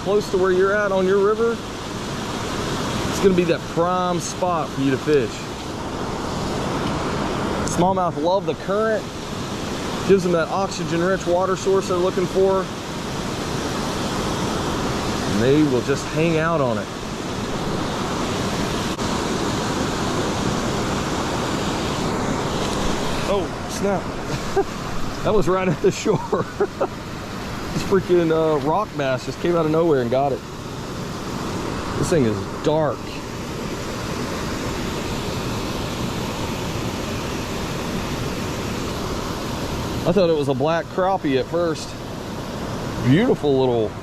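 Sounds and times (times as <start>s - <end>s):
water rushing over spillway: 0.0s - 44.0s.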